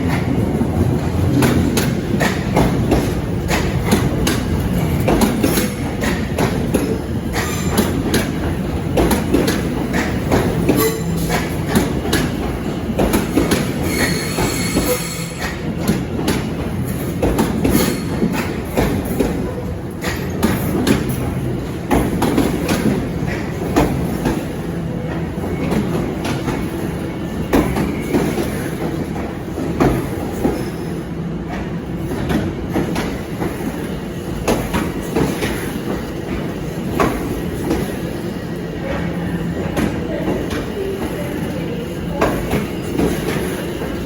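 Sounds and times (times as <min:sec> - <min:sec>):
train rumble: 0:00.0 - 0:44.0
train wheels clattering: 0:00.0 - 0:44.0.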